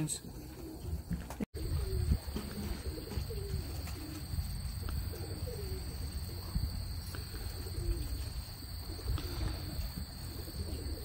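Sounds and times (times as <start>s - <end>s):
pigeons cooing: 0.4s - 11.0s.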